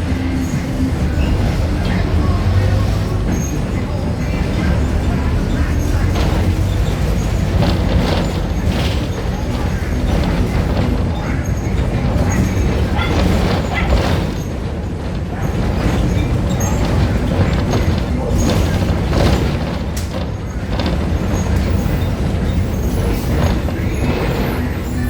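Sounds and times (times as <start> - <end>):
bus body rattles and knocks: 0.0 - 25.0
bus diesel engine rumbling: 0.0 - 25.0.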